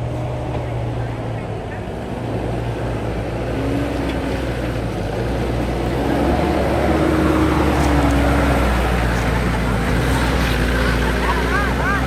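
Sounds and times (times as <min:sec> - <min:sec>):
jeep engine droning: 0:00.0 - 0:12.0.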